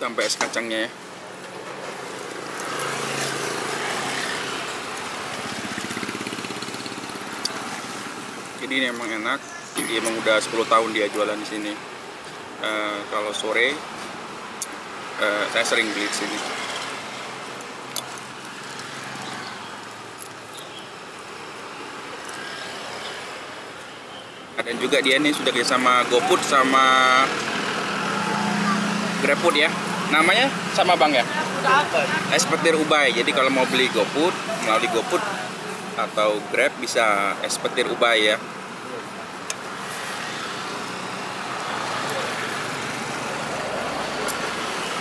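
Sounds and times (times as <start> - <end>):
street traffic: 0.0 - 45.0.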